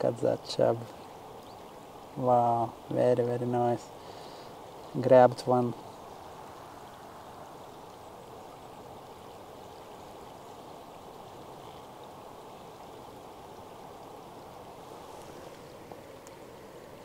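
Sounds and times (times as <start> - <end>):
fast-flowing river water: 0.0 - 17.0.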